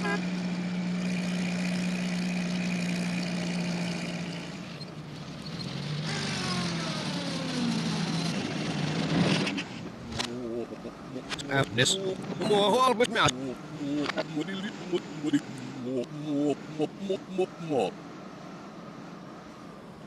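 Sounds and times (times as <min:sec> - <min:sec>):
reversed engine sound: 0:00.0 - 0:20.0.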